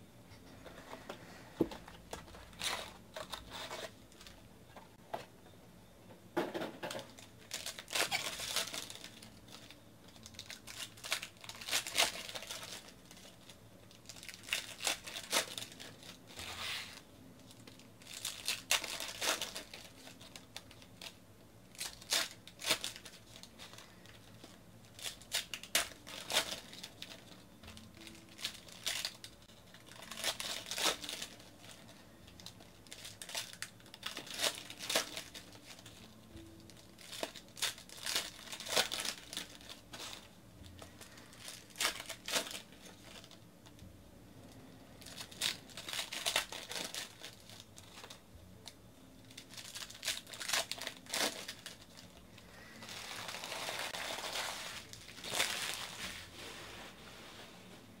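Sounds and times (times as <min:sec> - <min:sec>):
foil wrappers crinkling and tearing: 0:01.2 - 0:04.4, 0:06.9 - 0:43.8, 0:45.0 - 0:56.4.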